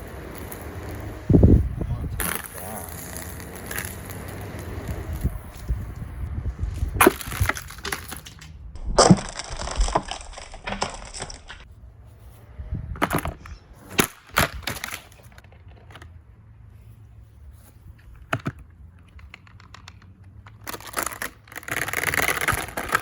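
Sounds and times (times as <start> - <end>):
plastic fan cracking and clattering: 0.0 - 6.1, 6.8 - 11.7, 13.0 - 16.1, 18.2 - 23.0.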